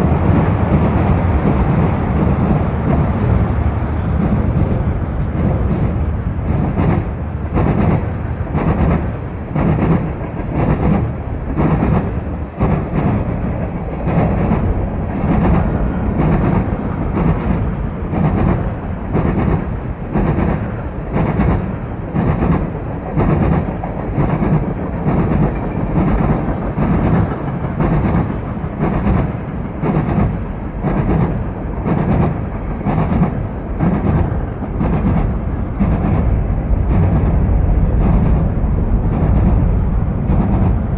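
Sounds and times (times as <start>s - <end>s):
freight train rumbling: 0.0s - 40.9s.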